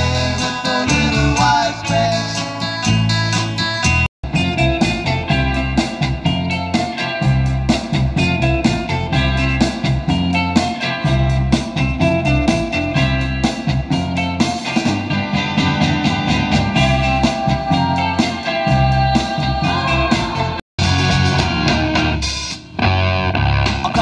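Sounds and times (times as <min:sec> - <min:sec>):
rock music with guitar: 0:00.0 - 0:24.0.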